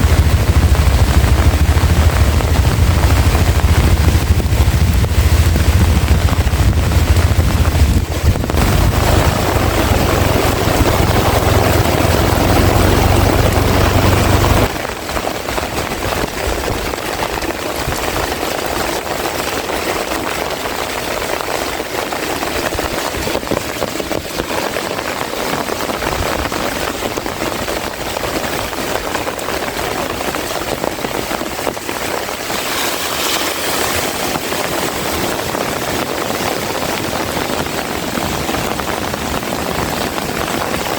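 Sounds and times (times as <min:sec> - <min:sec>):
heavy rain falling: 0:00.0 - 0:40.9
wind buffeting microphone: 0:00.0 - 0:40.9.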